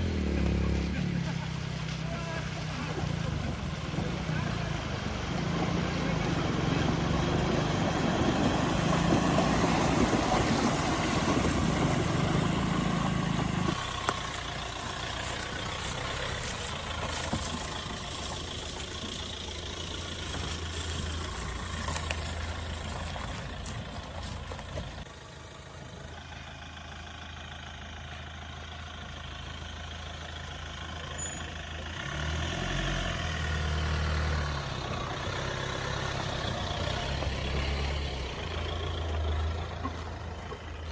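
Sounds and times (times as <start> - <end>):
car engine running and revving: 0.0 - 40.9.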